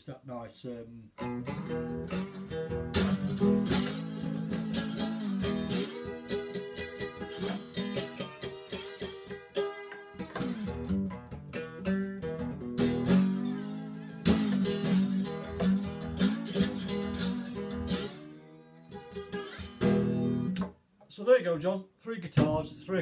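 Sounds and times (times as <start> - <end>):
resonator guitar strummed and picked: 1.2 - 20.8.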